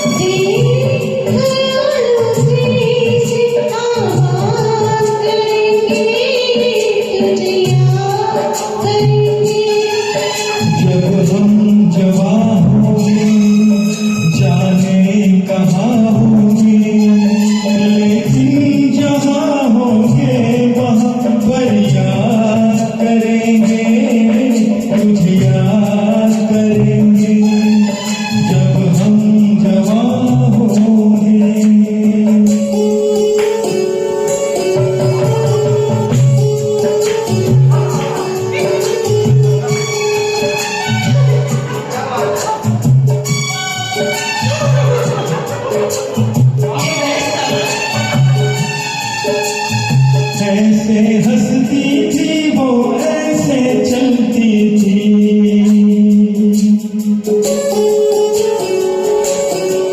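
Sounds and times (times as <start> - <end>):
karaoke backing track: 0.0 - 59.9.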